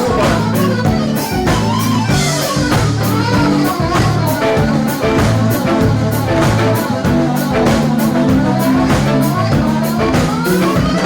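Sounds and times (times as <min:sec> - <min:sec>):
live dance band playing: 0:00.0 - 0:11.0.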